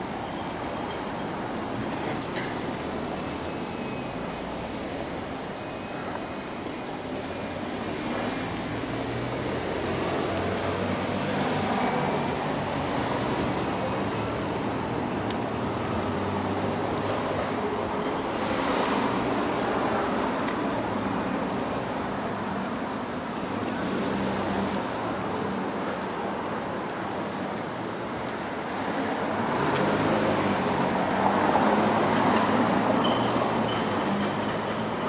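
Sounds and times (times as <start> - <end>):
cars engine hum on road: 0.0 - 35.0.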